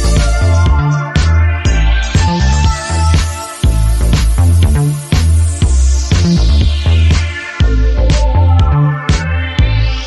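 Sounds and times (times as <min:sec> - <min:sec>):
music with heavy bass beat: 0:00.0 - 0:10.0.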